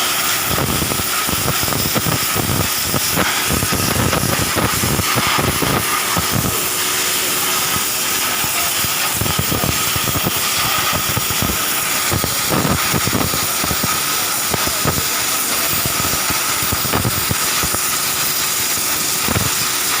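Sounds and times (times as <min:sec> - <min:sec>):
high whine: 0:00.0 - 0:20.0
pressure washer water jet hissing: 0:00.0 - 0:20.0.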